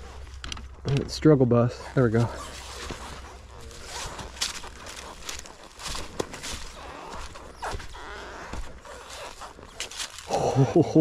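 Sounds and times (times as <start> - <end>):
footsteps crunching on dry brush: 0.0 - 11.0.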